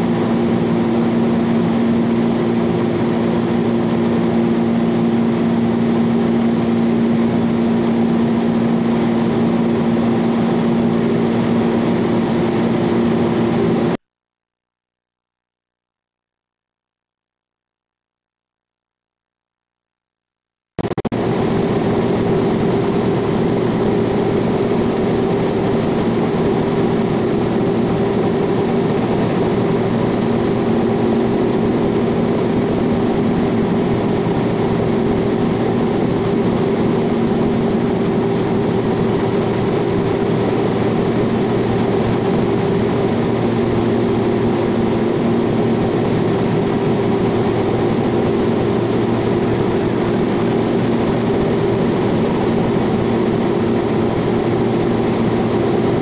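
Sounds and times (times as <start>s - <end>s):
propeller engines droning: 0.0s - 14.0s, 20.8s - 56.0s.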